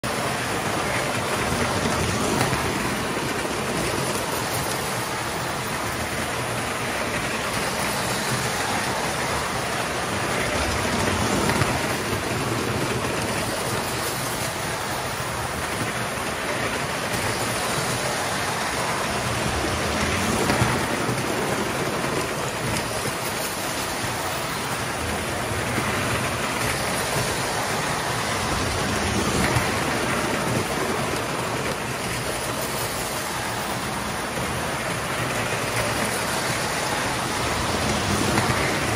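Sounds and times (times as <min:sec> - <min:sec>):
toy trains clattering on metal track: 0:00.1 - 0:38.9.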